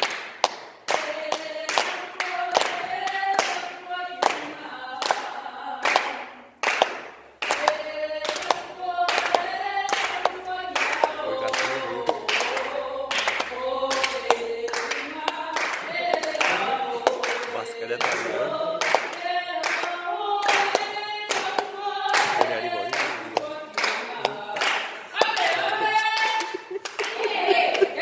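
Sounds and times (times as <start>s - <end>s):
rhythmic slaps: 0.0s - 28.0s
women singing unaccompanied: 0.9s - 6.6s, 7.4s - 28.0s.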